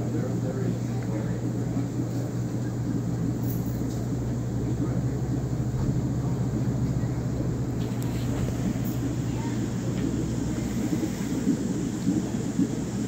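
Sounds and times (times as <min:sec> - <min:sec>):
aquarium pumps rushing: 0:00.0 - 0:13.0
low electrical hum: 0:00.0 - 0:13.0.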